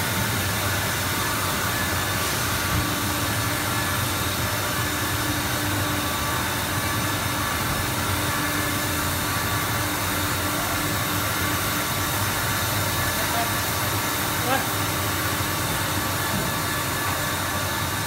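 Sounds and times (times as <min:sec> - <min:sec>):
machinery drone and hiss: 0:00.0 - 0:18.0.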